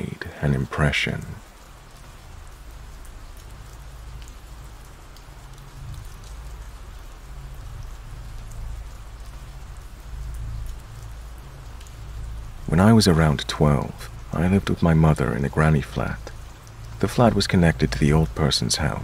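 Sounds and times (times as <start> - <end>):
rain falling: 0.0 - 19.0
raindrop ticks: 0.0 - 19.0.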